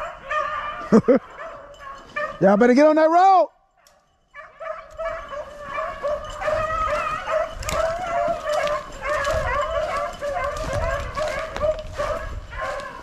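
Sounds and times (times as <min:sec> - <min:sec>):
hounds baying: 0:00.0 - 0:03.0, 0:03.8 - 0:13.0.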